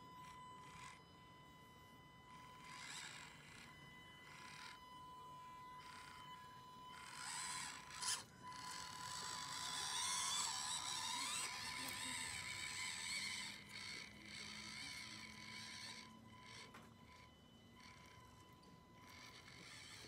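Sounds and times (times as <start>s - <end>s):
toy car motor whining: 0.0s - 20.0s.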